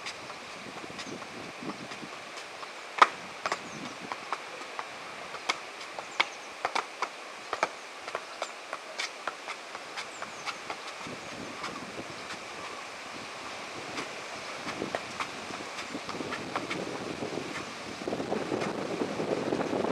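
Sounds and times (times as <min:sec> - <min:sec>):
wind hiss: 0:00.0 - 0:19.9.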